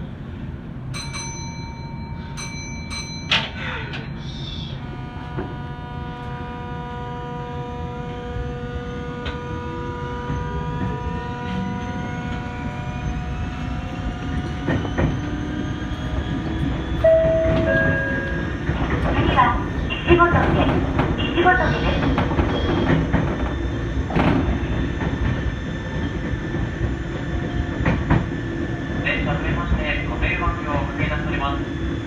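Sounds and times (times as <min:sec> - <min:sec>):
rumbling rail noise: 0:00.0 - 0:32.0.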